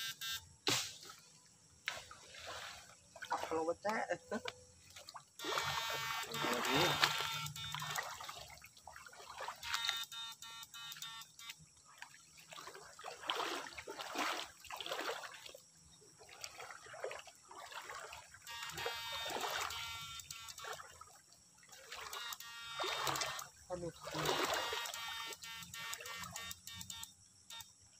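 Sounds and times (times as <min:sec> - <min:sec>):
stream water splashing: 0:00.7 - 0:26.8.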